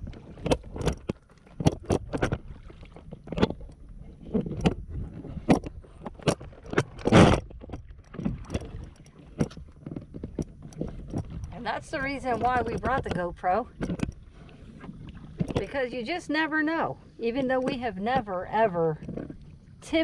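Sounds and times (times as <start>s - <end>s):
knocks and rubbing on a canoe: 0.0s - 20.0s.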